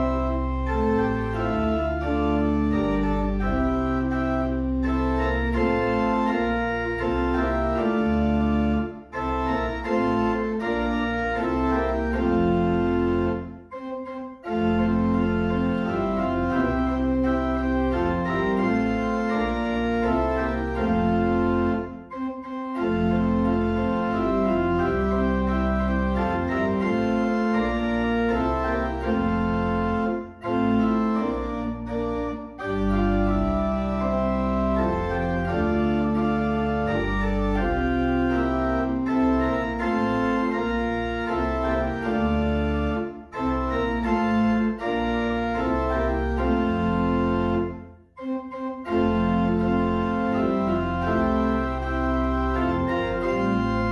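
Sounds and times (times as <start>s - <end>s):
organ playing sustained chords: 0.0s - 53.9s.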